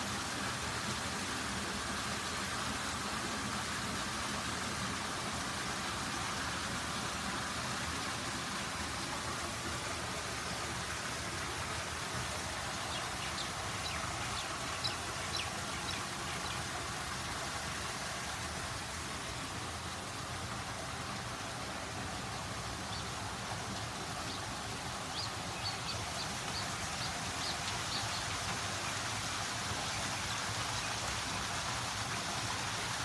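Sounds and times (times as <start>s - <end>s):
waterfall rushing and splashing: 0.0s - 33.0s.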